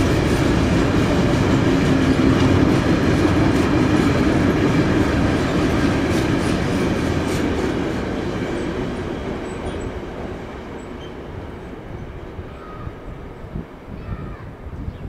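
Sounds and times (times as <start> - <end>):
train rumbling past: 0.0 - 14.9.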